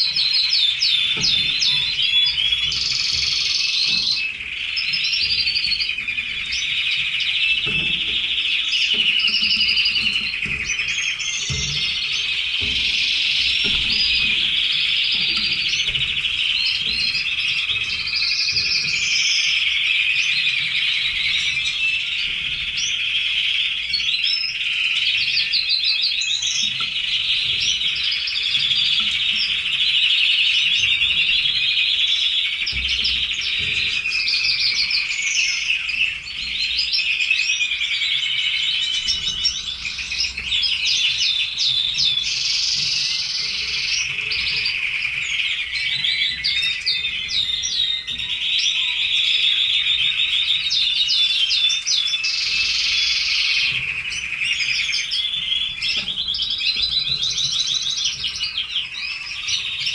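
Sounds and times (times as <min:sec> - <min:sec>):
canaries singing trills: 0:00.0 - 0:59.9.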